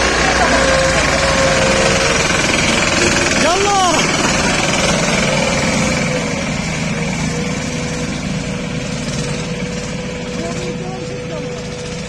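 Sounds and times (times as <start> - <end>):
small vehicle engine under load: 0.0 - 12.0.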